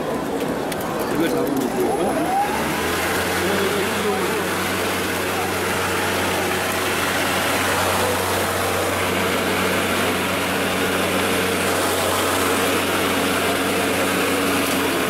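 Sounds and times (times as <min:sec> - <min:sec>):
lawn mower electric hum: 0:00.2 - 0:15.0
mower blade whirring: 0:00.2 - 0:15.0.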